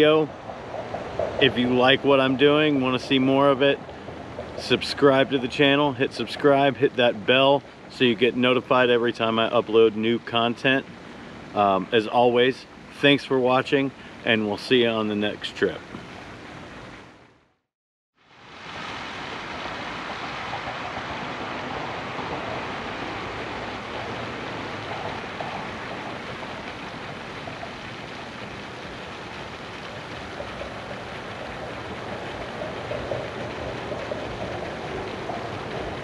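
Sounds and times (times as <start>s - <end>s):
fountain spraying water: 0.0s - 17.3s, 18.2s - 36.0s.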